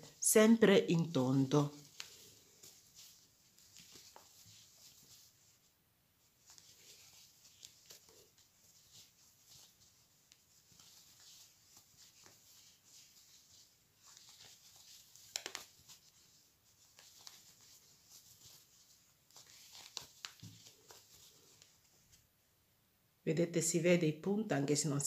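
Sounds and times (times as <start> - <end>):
yarn rustling: 0.0 - 22.3.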